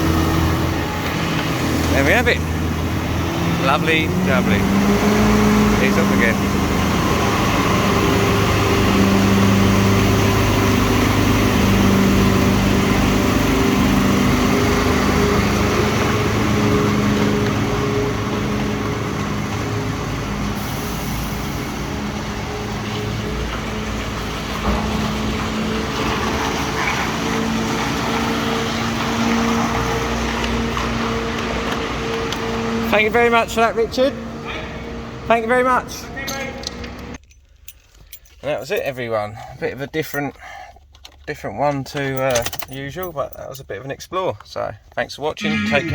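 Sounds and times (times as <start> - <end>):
diesel engine droning: 0.0 - 37.2, 45.4 - 45.9.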